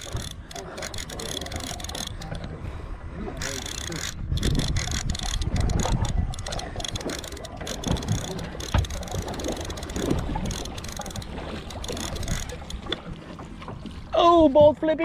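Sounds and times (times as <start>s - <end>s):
fishing reel clicking: 0.0s - 2.5s, 3.4s - 13.0s
wind buffeting microphone: 0.0s - 14.8s.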